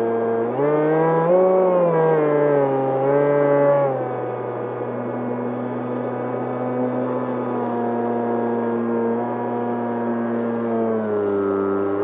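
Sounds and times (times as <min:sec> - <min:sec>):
electric motor and propeller whine: 0:00.0 - 0:12.0.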